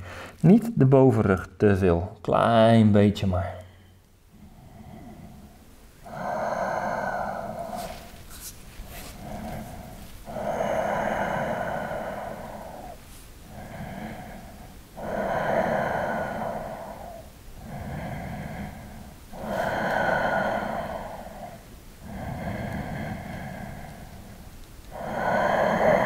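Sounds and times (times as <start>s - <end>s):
man breathing slowly: 0.0s - 0.4s, 3.6s - 26.0s.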